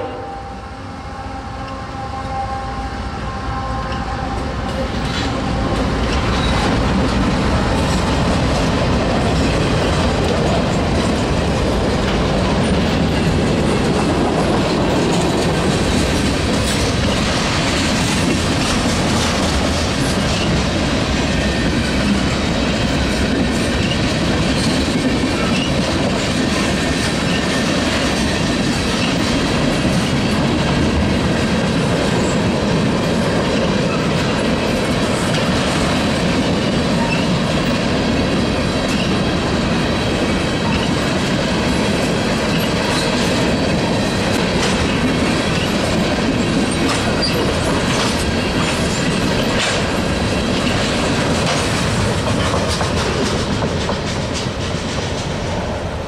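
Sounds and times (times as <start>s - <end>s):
train wheels clattering on rails: 3.8s - 56.0s.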